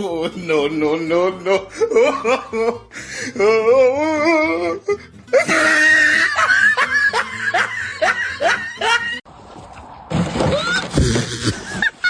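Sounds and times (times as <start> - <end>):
person laughing hard: 0.0 - 9.2, 10.5 - 12.0.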